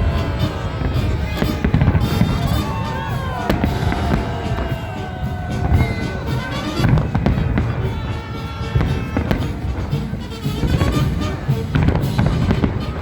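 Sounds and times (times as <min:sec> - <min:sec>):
fireworks bangs and booms: 0:00.0 - 0:13.0
music playing: 0:00.0 - 0:13.0.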